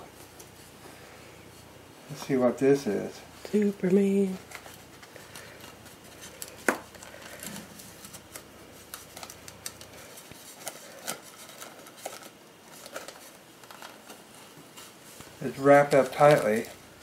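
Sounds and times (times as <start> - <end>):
wrapping rustling and crinkling: 1.5 - 17.0.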